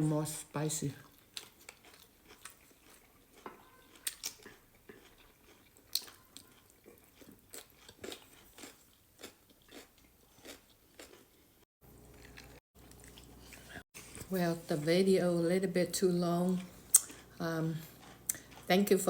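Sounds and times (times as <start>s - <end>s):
person chewing food: 1.0s - 14.3s, 16.5s - 18.8s
small crunches and mouth clicks: 1.0s - 14.3s, 16.6s - 18.7s.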